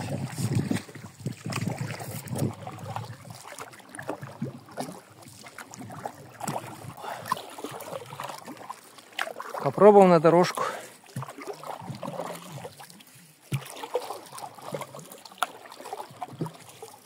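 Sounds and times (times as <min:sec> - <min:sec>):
faint water noise: 0:00.0 - 0:17.0
knocks and clatter in rowing boat: 0:00.0 - 0:17.0.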